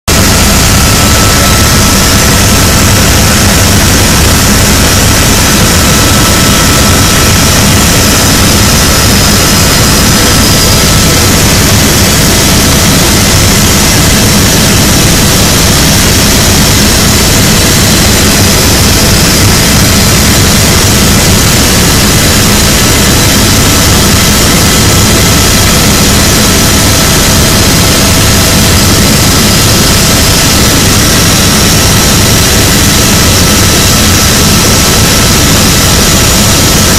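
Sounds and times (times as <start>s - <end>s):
helicopter engine and rotor noise: 0.1s - 36.9s
thin constant whine: 0.1s - 36.9s.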